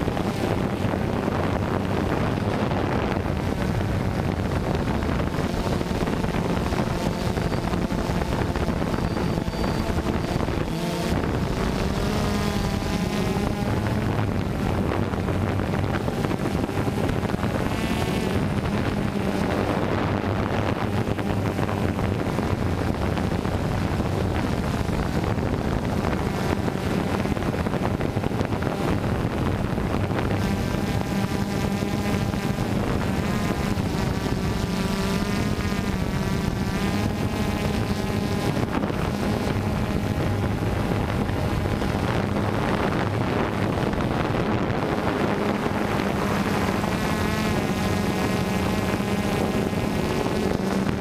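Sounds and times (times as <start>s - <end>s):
drone propellers buzzing: 0.0s - 51.0s
wind on microphone: 0.0s - 51.0s.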